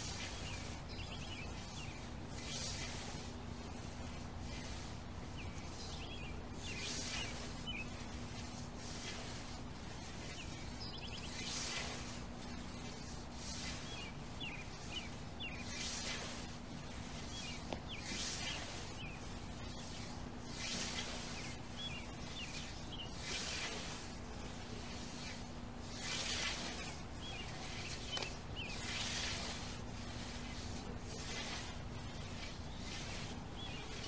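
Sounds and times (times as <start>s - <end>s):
birds chirping: 0.0s - 34.0s
scythe swishing through grass: 0.0s - 34.0s.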